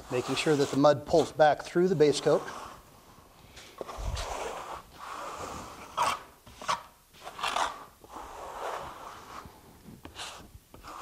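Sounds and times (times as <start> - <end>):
trowel scraping wet plaster: 0.0 - 2.8, 3.8 - 11.0.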